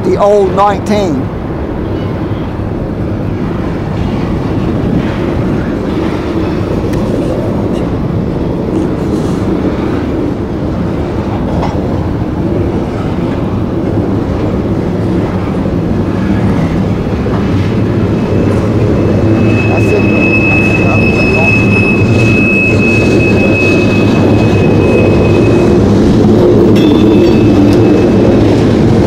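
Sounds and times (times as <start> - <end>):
steel wheels rumbling on rails: 1.2 - 29.0.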